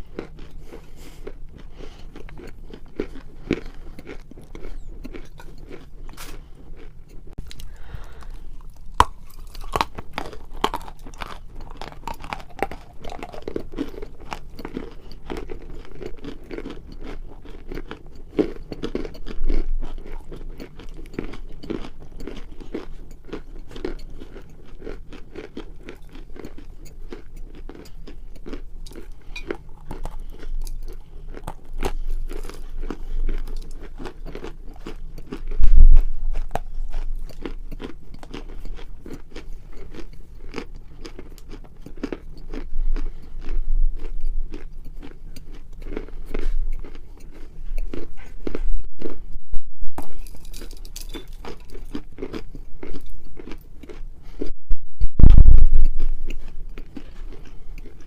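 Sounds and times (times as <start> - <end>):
chewing crisp crunches: 0.0 - 49.2, 50.0 - 54.5, 55.3 - 58.0.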